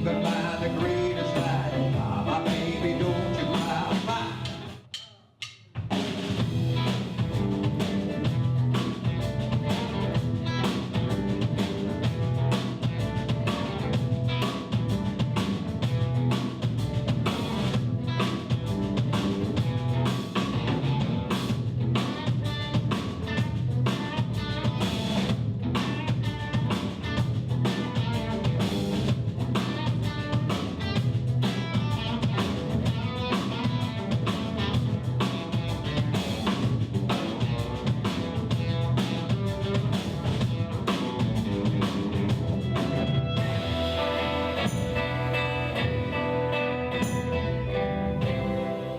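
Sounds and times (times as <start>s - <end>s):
blues band playing live: 0.0s - 4.9s, 5.9s - 48.9s
drum kit steady beat: 0.0s - 48.9s.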